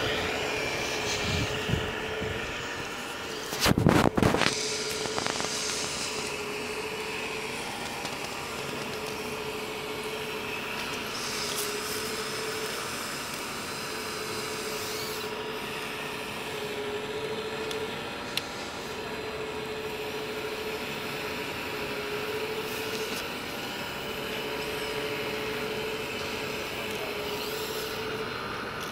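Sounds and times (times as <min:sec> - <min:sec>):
model machine motors whining: 0:00.0 - 0:28.9.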